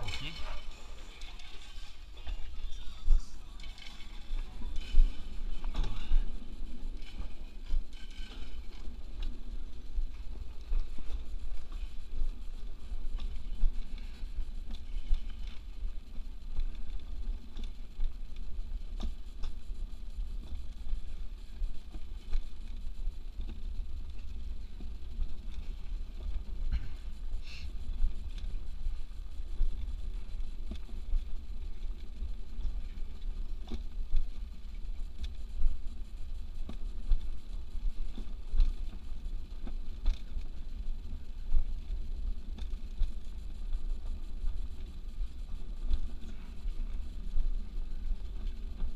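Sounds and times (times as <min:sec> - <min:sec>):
toboggan rolling on metal track: 0:00.0 - 0:48.9.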